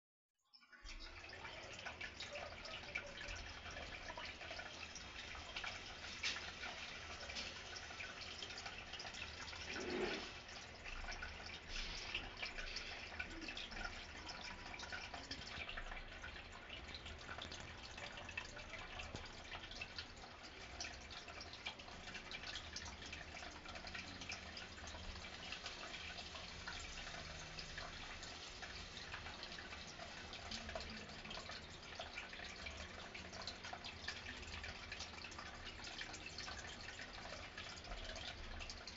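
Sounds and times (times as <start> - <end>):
water trickling and dripping: 0.4 - 38.9.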